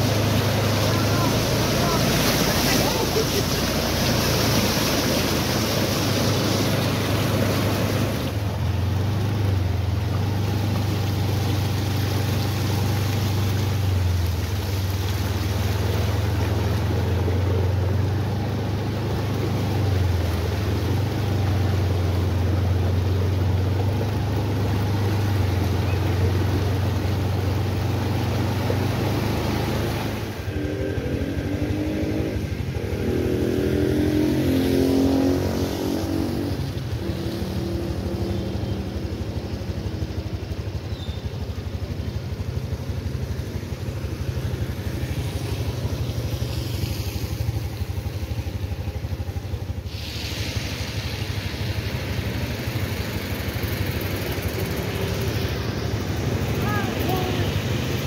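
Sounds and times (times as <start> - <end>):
floodwater rushing: 0.0 - 58.0
rain: 0.0 - 58.0
vehicle engine humming: 0.0 - 58.0.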